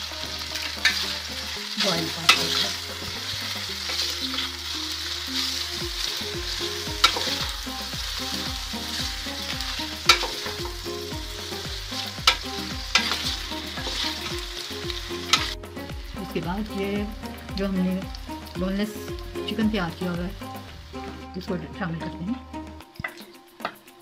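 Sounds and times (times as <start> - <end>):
noodles sizzling in hot oil: 0.0 - 21.5, 22.2 - 24.0.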